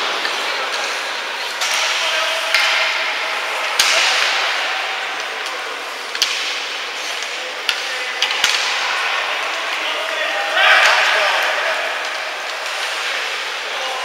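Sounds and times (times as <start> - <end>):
hockey stick clacking puck: 0.0 - 13.6.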